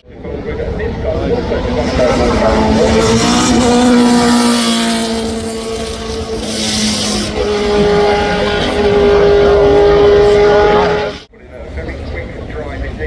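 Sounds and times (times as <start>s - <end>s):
racing car engines at high revs: 0.0s - 11.3s
second engine steady pitch: 0.0s - 11.3s.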